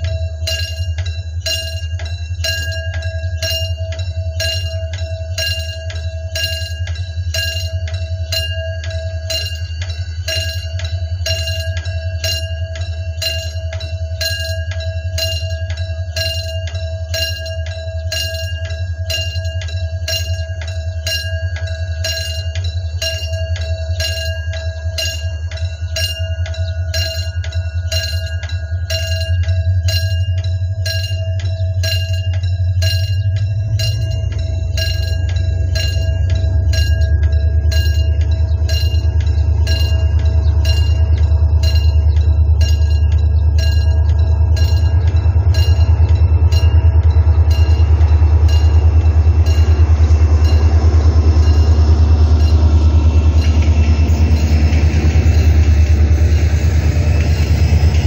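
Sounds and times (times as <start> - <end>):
diesel locomotive running: 0.0 - 58.0
level crossing bell ringing: 0.0 - 58.0.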